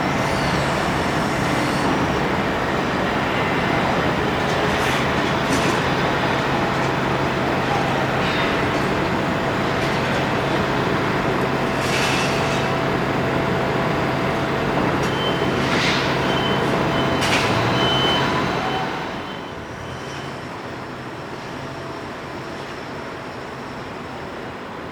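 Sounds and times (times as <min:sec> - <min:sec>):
diesel engine running: 0:00.0 - 0:24.5.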